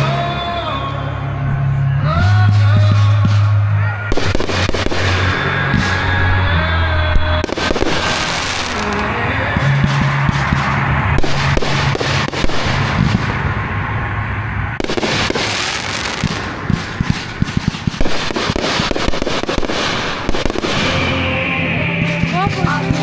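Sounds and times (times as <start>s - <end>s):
low hum: 0.0s - 23.0s
fireworks bangs and crackles: 2.2s - 23.0s.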